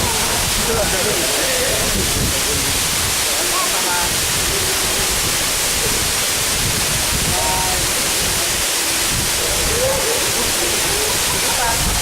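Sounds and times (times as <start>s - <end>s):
faint voices: 0.0s - 6.5s, 7.2s - 12.0s
waterfall rushing: 0.0s - 12.0s.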